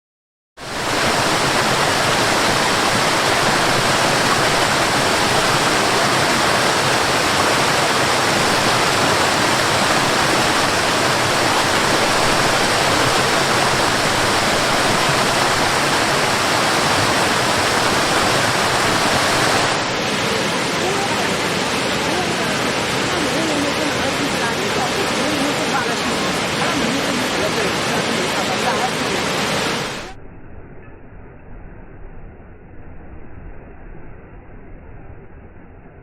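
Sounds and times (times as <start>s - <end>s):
waterfall rushing: 0.6s - 30.2s.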